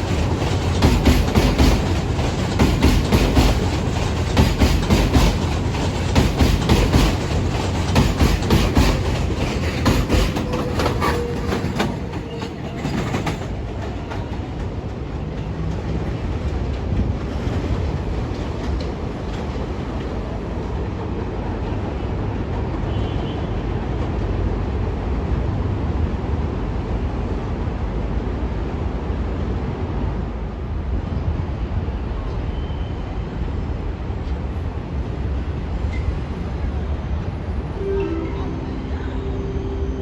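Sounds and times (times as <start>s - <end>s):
subway train wheels on rails: 0.0s - 40.0s.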